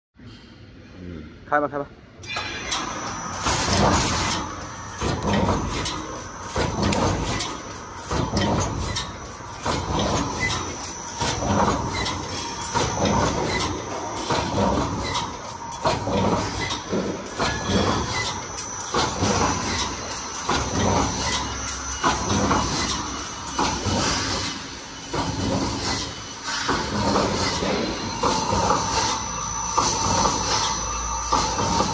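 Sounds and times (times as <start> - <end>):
welding machine clanking: 2.2 - 31.9.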